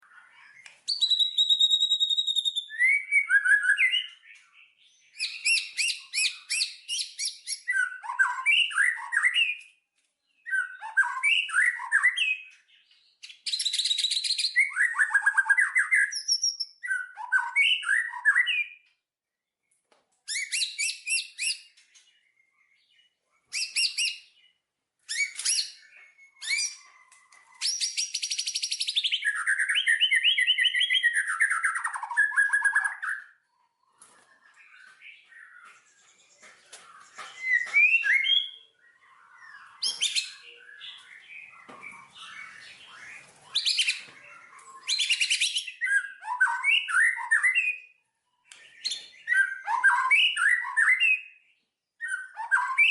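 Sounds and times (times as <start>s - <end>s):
songbird trilling and whistling: 0.0s - 18.9s, 20.3s - 52.9s.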